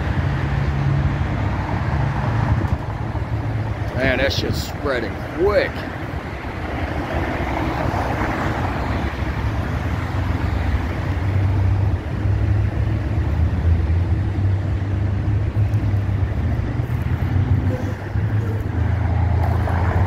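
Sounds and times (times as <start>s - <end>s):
freeway traffic rumble: 0.0s - 20.0s.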